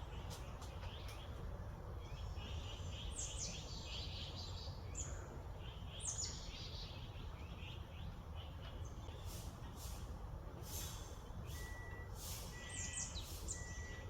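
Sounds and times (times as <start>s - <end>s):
songbirds calling: 0.0s - 14.0s.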